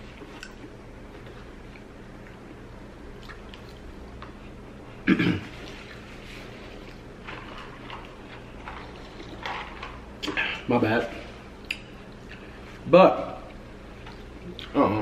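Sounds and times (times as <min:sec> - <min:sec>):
man chewing food: 0:00.0 - 0:10.7, 0:11.3 - 0:12.8, 0:13.4 - 0:14.8.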